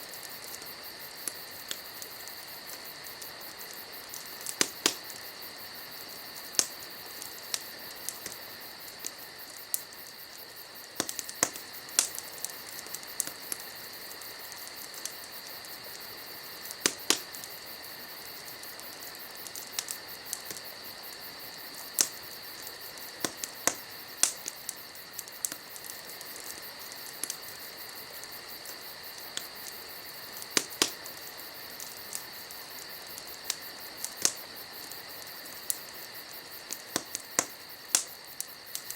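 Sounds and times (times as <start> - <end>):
insects chirring: 0.0 - 38.9
wood fire crackling: 0.0 - 38.9.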